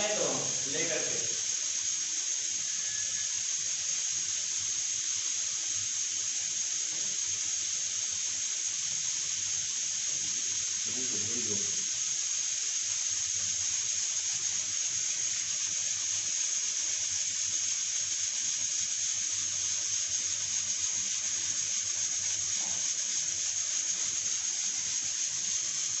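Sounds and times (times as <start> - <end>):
pressure cooker hissing: 0.0 - 26.0.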